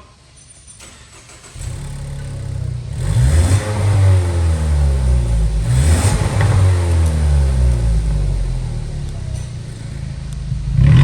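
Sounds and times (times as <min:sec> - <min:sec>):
car engine revving: 0:00.8 - 0:11.0.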